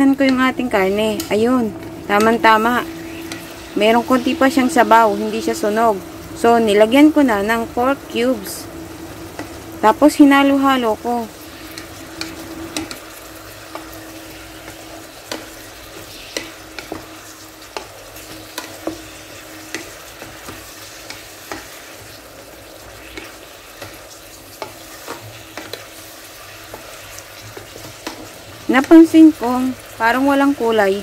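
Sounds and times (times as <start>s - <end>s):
meat sizzling: 0.0s - 31.0s.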